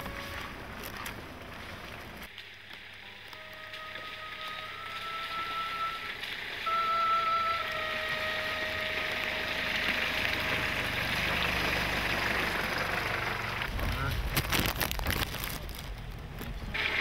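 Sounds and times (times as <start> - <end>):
van engine hum: 0.0 - 17.0
water splashing under wheels: 0.0 - 17.0.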